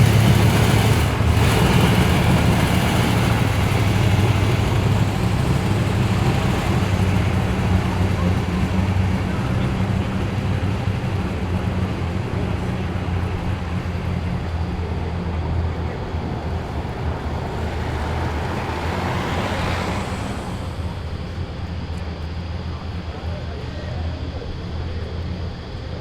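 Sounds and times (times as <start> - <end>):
rush of noise: 0.0 - 23.1
car engine running low: 0.0 - 26.0.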